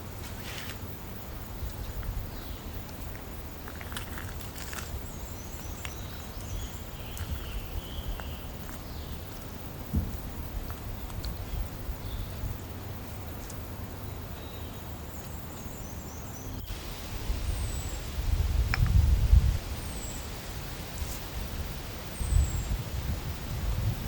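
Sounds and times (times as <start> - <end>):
small birds chirping: 1.4 - 23.9.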